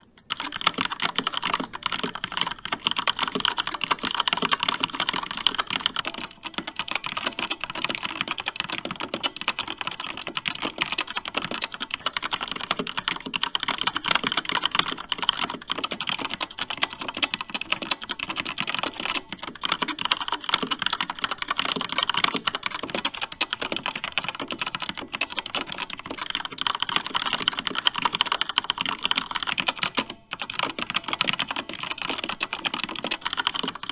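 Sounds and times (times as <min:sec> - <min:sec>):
typing on mechanical keyboard: 0:00.0 - 0:33.9.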